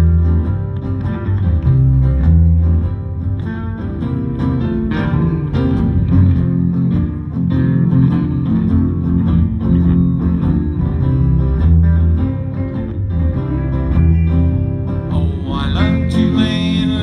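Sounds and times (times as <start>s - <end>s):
bass line: 0.0s - 17.0s
plucked guitar melody: 0.0s - 17.0s.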